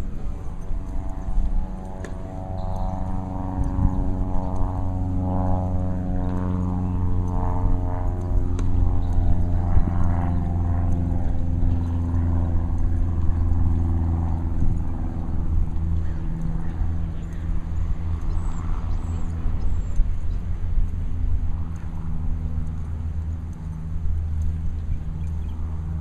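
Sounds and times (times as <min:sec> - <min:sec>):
low drone with overtones: 0:00.0 - 0:26.0.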